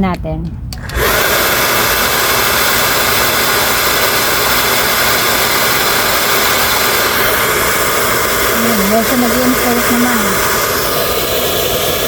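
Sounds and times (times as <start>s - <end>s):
hair dryer running: 0.8s - 12.0s.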